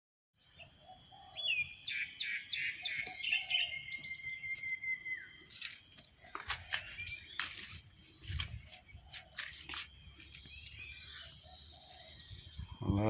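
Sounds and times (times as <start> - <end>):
insect trill: 0.4 - 13.0
bird calling: 0.7 - 13.0.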